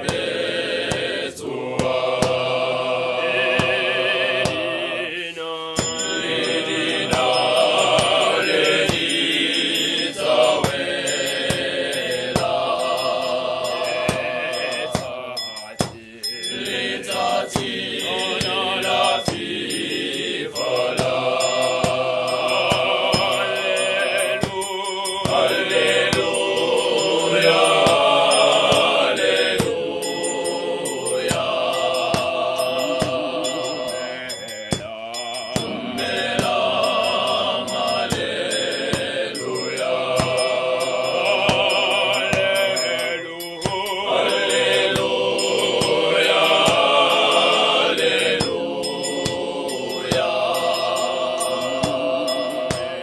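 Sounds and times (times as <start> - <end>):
male choir singing in harmony: 0.0 - 53.0.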